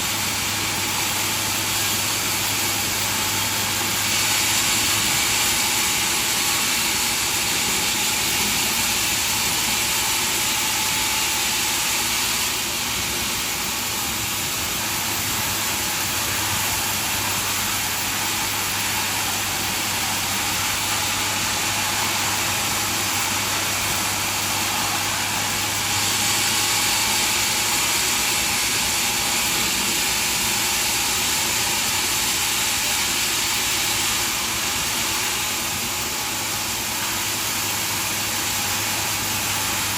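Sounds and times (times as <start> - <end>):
sawmill machinery hum and hiss: 0.0 - 39.9.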